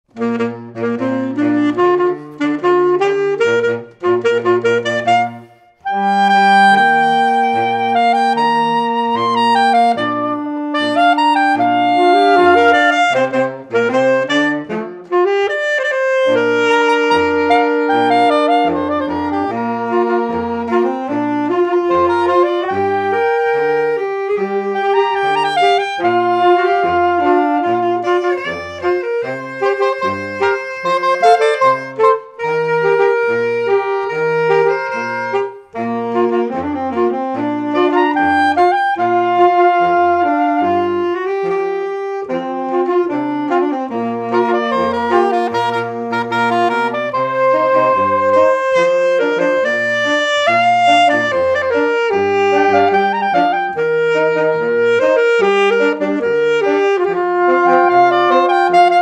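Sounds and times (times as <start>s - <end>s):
saxophone quartet playing: 0.1s - 59.0s.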